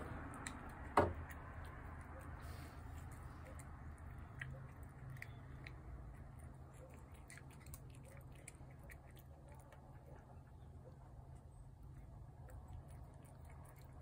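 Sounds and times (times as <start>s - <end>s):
cat chewing food: 0.0s - 14.0s.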